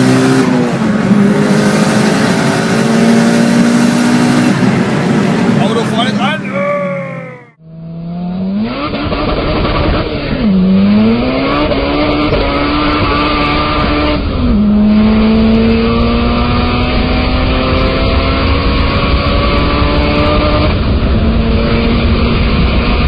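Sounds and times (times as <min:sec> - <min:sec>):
car engine revving at full throttle: 0:00.0 - 0:23.0.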